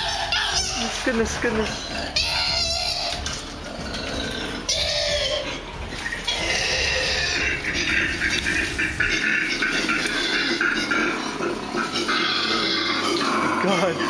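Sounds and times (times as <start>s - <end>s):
koalas fighting with harsh calls: 0.0s - 14.0s.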